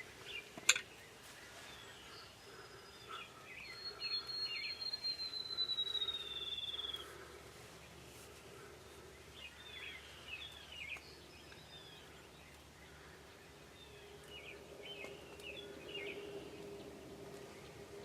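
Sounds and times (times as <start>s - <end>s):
faint outdoor background noise: 0.0s - 18.0s
low steady drone: 0.0s - 18.0s
songbird singing: 0.0s - 18.0s.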